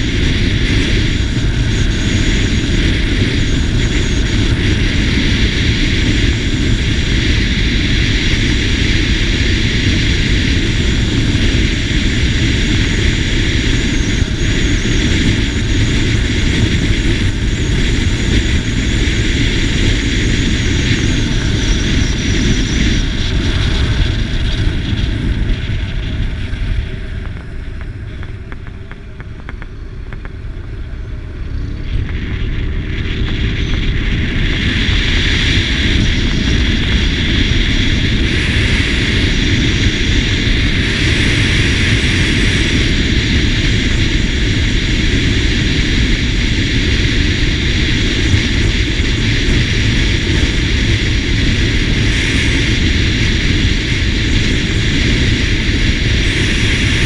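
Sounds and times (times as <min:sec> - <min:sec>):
scooter engine and road noise: 0:00.0 - 0:57.0
wind rushing over microphone: 0:00.0 - 0:57.0.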